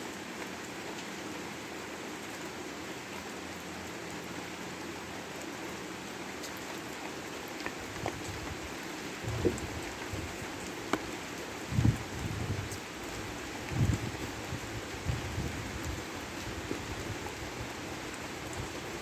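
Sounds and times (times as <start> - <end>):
steady rain falling: 0.0 - 19.0
water drips: 2.2 - 19.0.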